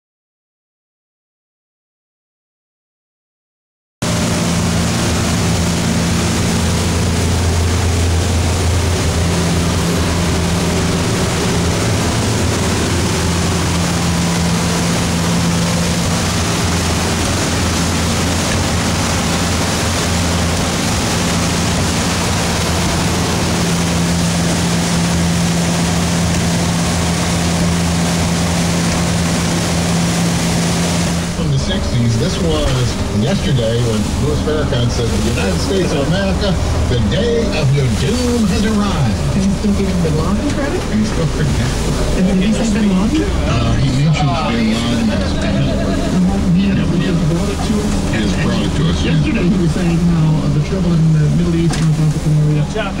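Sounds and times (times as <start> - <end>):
boat engine running: 4.0 - 53.0
rushing water: 4.0 - 53.0
wind: 4.0 - 53.0.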